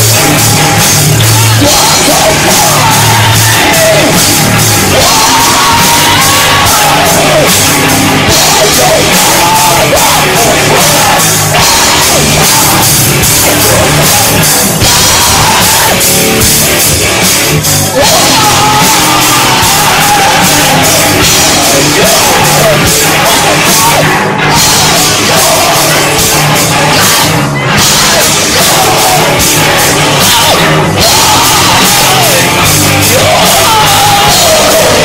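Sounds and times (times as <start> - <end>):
drum kit: 0.0 - 35.0
electric guitar: 0.0 - 35.0.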